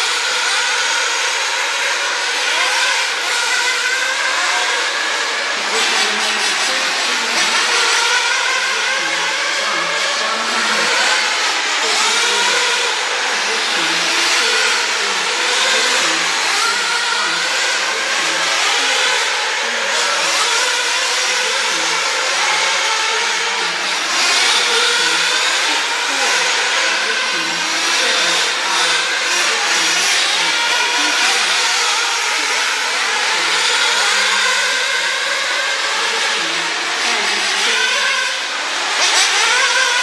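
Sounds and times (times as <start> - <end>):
rc car motors whining: 0.0 - 40.0.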